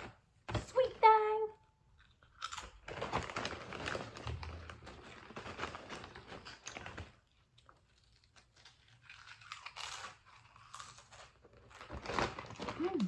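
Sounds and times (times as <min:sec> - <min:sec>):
potato chips crunching and chewing: 0:01.9 - 0:13.0
chip bag crinkling: 0:02.0 - 0:13.0.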